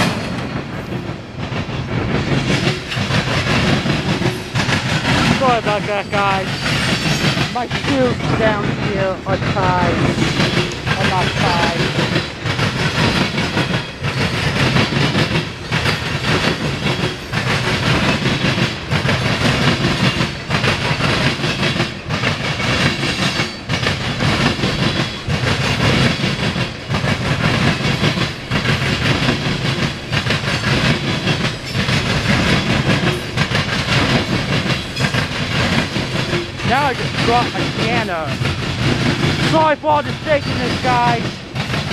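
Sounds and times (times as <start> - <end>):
train wheels clattering over rail joints: 0.0 - 41.9.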